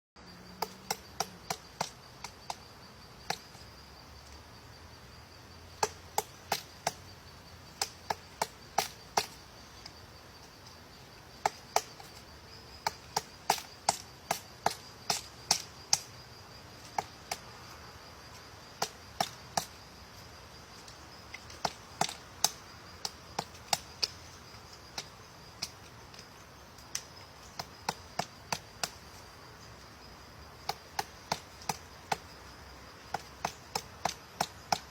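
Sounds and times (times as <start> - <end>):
high insect trill: 0.2 - 34.9
woodpecker pecking wood: 0.5 - 4.4, 5.7 - 17.4, 20.8 - 34.9.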